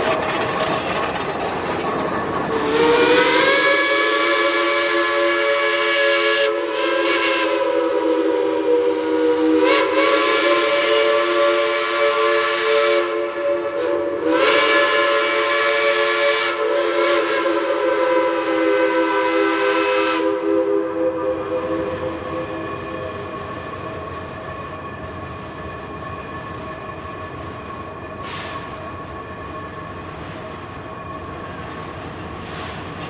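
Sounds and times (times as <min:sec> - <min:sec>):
steam locomotive whistle chord: 0:02.6 - 0:30.0.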